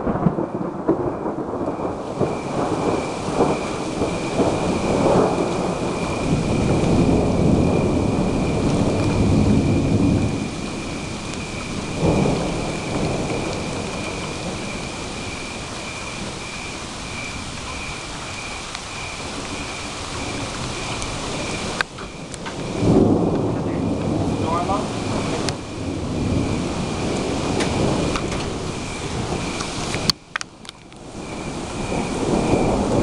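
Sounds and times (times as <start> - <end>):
steady rain: 0.0 - 33.0
thunder rumbling: 0.0 - 33.0.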